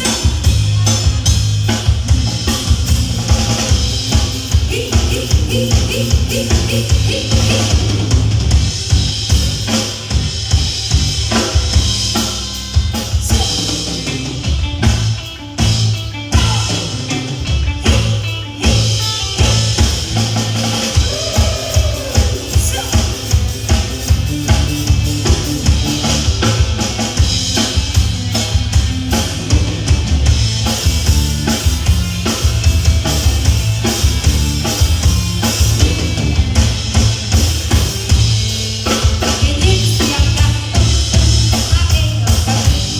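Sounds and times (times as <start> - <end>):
drum kit beat: 0.0 - 42.9
live band music: 0.0 - 42.9.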